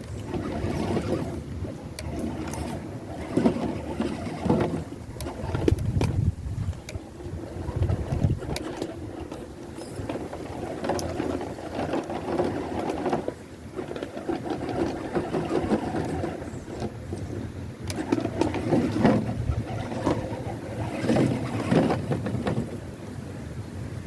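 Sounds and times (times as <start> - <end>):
toy car motor whirring: 0.0 - 6.3, 6.9 - 17.2, 17.9 - 22.6.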